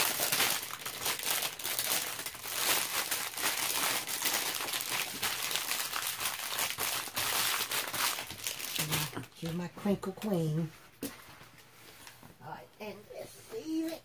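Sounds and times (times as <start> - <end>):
plastic cover crinkling: 0.0 - 12.2.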